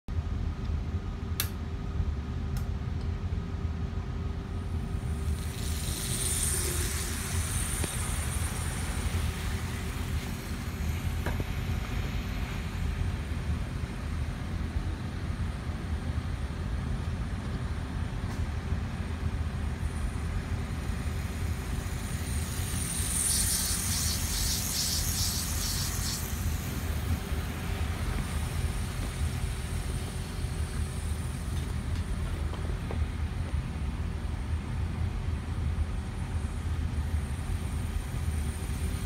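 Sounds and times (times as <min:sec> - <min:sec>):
model train rumbling: 0:04.1 - 0:39.0.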